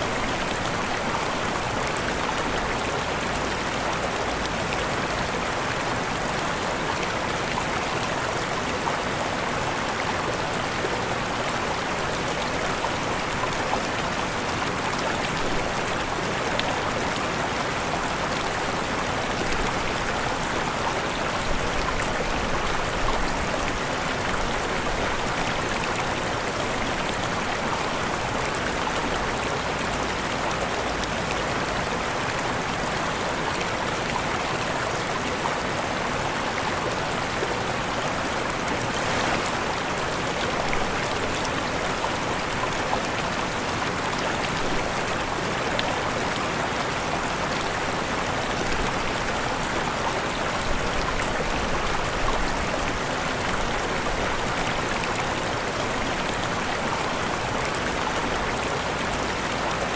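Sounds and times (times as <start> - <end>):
waterfall rushing water: 0.0 - 59.9.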